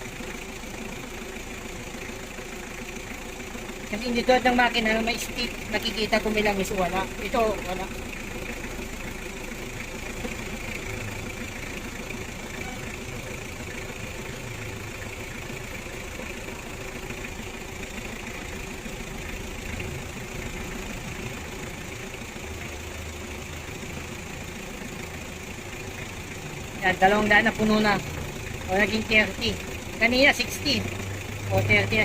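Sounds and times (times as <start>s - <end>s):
air conditioning running: 0.0s - 32.0s
car engine idling: 0.0s - 32.0s.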